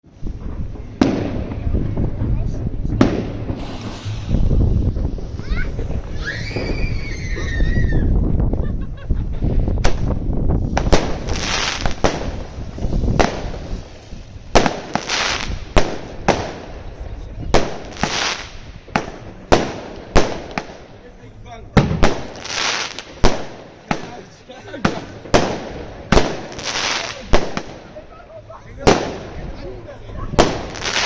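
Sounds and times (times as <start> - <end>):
firework bangs: 0.1 - 8.5, 9.2 - 28.1, 28.8 - 29.6, 30.3 - 31.0
crackling firework stars: 0.1 - 31.0.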